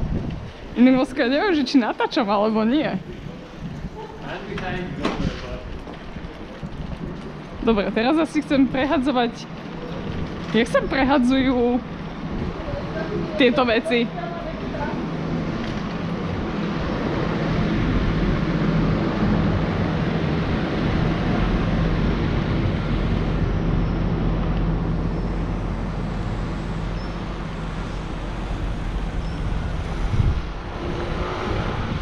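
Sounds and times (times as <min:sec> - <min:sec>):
wind on microphone: 0:00.0 - 0:32.0
bicycle tyres rumbling on bricks: 0:02.4 - 0:32.0.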